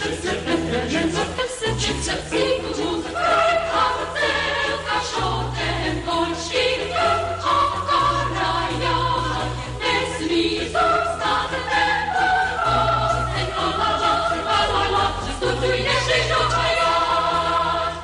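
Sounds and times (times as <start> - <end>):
choir singing long notes: 0.0 - 18.0.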